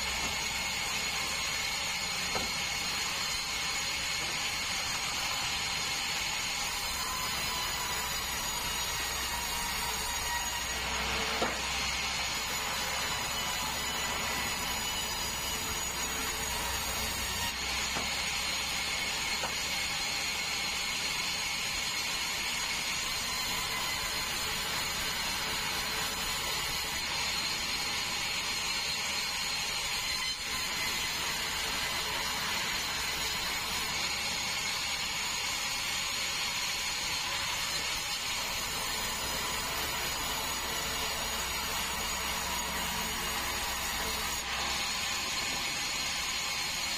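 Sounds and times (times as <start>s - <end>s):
band saw cutting log: 0.0s - 46.9s.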